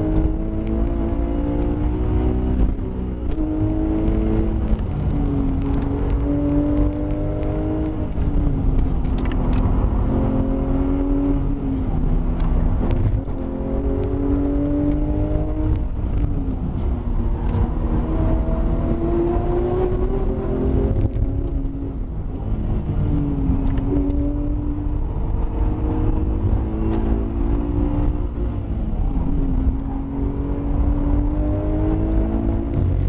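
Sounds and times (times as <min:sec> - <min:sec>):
car engine revving: 0:00.0 - 0:33.0
road and drivetrain noise: 0:00.0 - 0:33.0.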